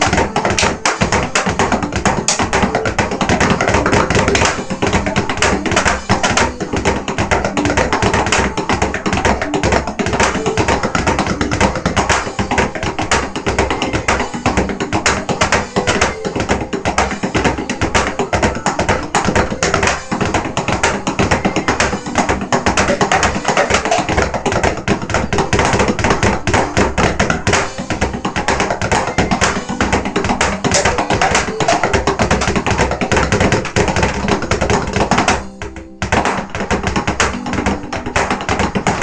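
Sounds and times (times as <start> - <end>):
fast drumming on electronic drums: 0.0 - 39.0.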